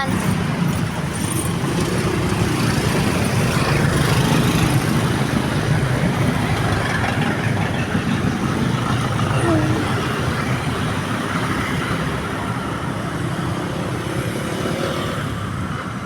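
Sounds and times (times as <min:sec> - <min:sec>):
vehicle engines running: 0:00.0 - 0:14.5
road traffic noise: 0:00.0 - 0:16.0.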